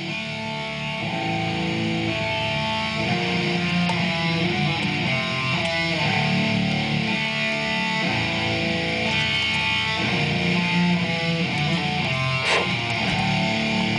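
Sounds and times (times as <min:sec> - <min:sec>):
rock guitar music: 0:00.0 - 0:13.9.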